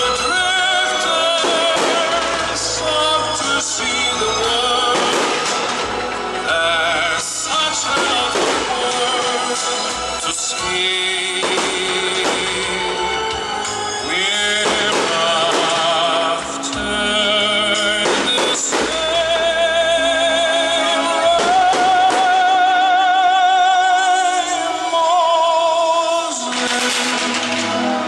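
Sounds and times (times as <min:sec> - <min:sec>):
instrumental accompaniment: 0:00.0 - 0:28.0
person singing with vibrato: 0:00.0 - 0:28.0.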